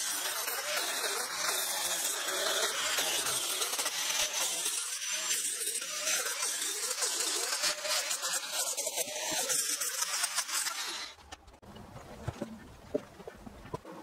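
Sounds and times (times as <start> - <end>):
angle grinder sanding wood: 0.0 - 11.2.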